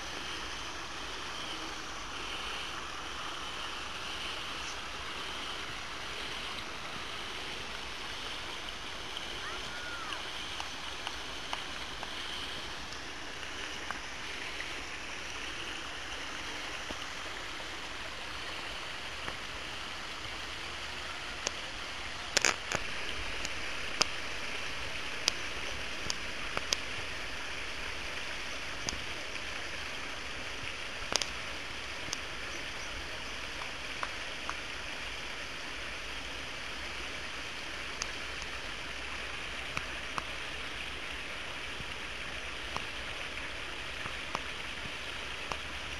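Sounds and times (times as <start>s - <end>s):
running water rushing: 0.0s - 45.9s.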